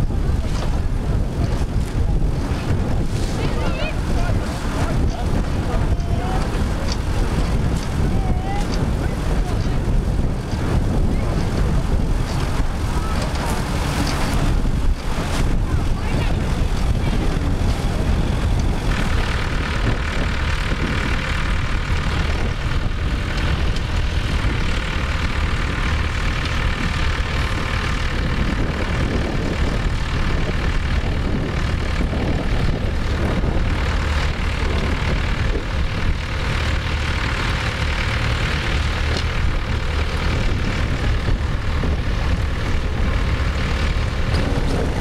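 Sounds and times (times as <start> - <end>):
tractor engine rumbling: 0.0 - 45.0.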